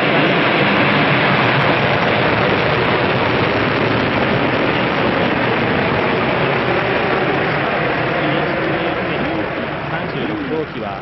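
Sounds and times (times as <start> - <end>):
rocket exhaust rumble: 0.0 - 11.0.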